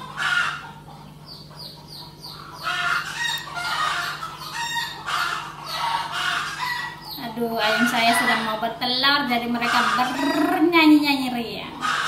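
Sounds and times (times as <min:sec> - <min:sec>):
hens cackling and clucking: 0:00.0 - 0:08.7, 0:09.4 - 0:10.9, 0:11.7 - 0:12.0.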